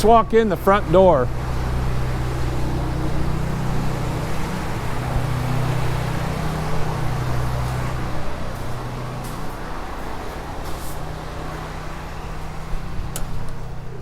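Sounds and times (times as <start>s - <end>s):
low engine hum: 0.0s - 14.0s
noisy rush: 0.0s - 14.0s.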